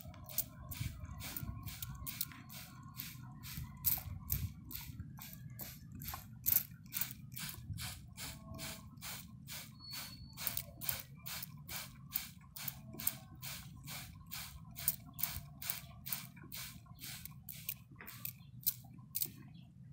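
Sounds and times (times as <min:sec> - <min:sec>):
spray bottle hissing: 0:00.3 - 0:06.2, 0:07.0 - 0:18.3.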